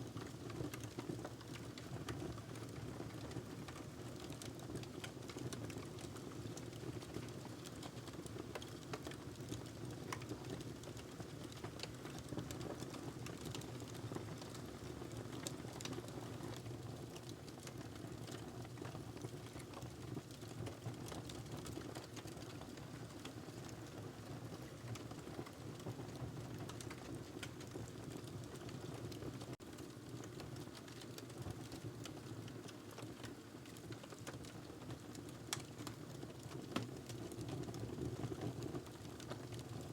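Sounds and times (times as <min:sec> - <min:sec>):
low hiss of burning logs: 0:00.0 - 0:39.9
wood fire crackling and popping: 0:00.0 - 0:39.9.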